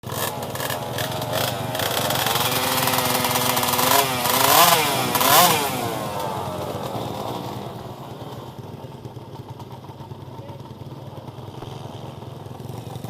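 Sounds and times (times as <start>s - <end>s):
pit bike engine revving: 0.0s - 9.7s, 10.4s - 13.0s.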